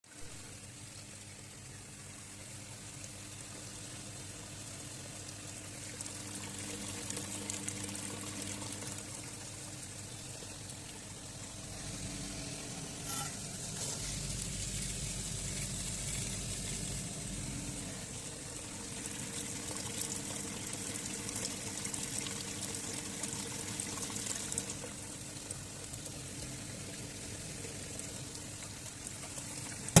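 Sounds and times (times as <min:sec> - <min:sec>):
low steady hum: 0:00.1 - 0:30.0
water running and splashing: 0:00.5 - 0:30.0.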